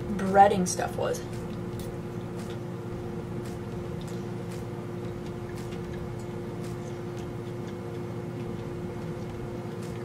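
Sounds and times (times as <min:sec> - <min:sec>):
kitchen hum: 0:00.0 - 0:10.0.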